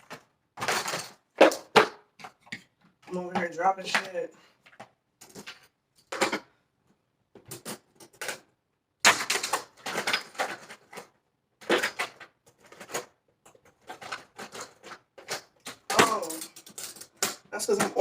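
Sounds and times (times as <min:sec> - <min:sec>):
small hard objects clattering: 0:00.0 - 0:06.4, 0:09.1 - 0:18.0.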